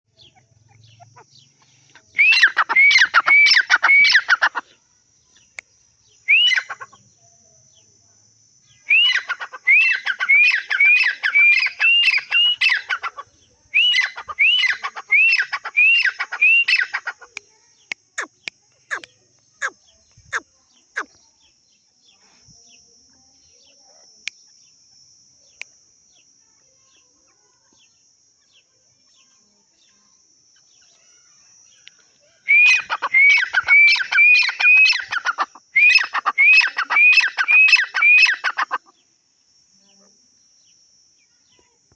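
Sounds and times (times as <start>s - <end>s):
francolin calling: 0.1s - 8.0s, 8.6s - 39.2s.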